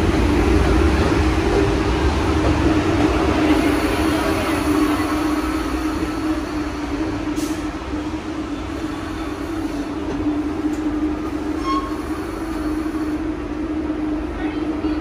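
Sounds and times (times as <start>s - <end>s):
subway train humming: 0.0s - 15.0s.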